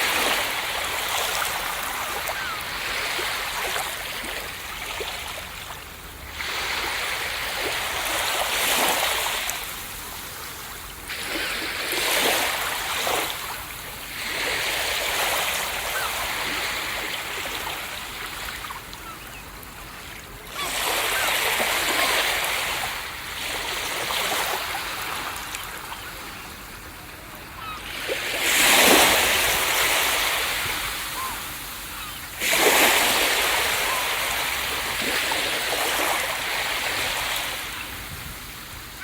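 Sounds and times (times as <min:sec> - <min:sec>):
ocean surf breaking on beach: 0:00.0 - 0:18.6, 0:20.5 - 0:39.0.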